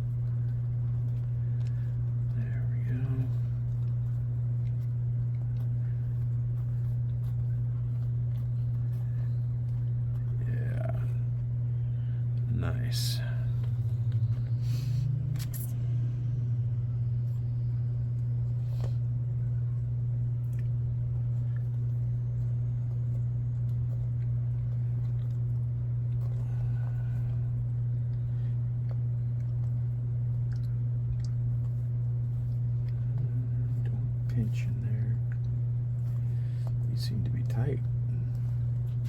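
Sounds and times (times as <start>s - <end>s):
electrical motor hum: 0.0s - 39.0s.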